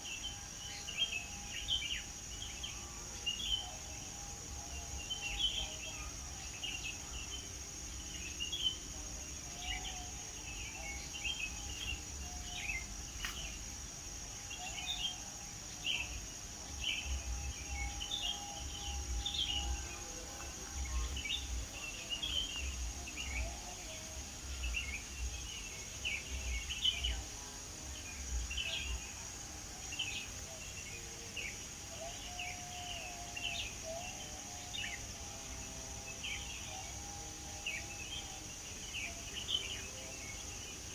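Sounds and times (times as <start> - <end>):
high-pitched insect drone: 0.0 - 40.9.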